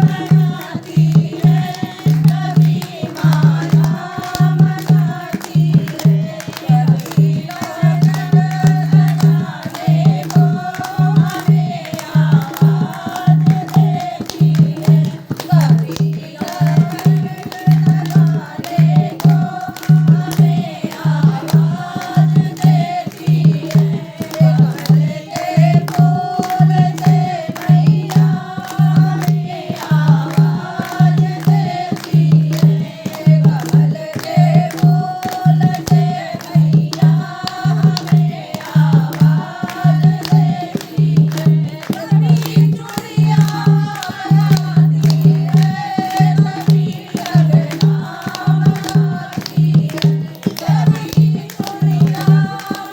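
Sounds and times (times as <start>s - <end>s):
devotional singing: 0.0s - 52.9s.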